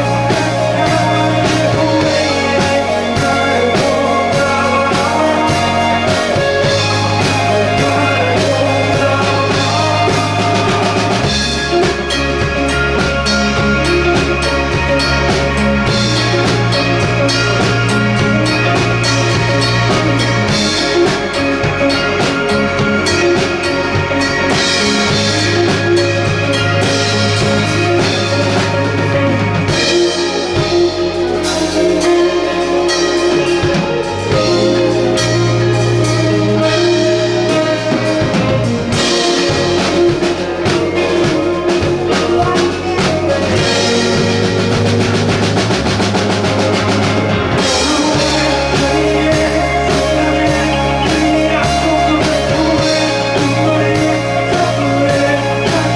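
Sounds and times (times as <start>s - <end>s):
bass guitar: 0.0s - 55.9s
drum kit: 0.0s - 55.9s
electric guitar: 0.0s - 55.9s.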